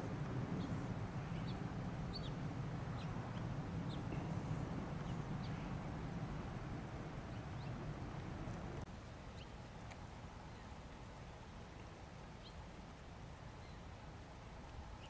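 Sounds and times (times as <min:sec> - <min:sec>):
small birds chirping: 0:00.0 - 0:12.7
low outdoor rumble: 0:00.0 - 0:15.0.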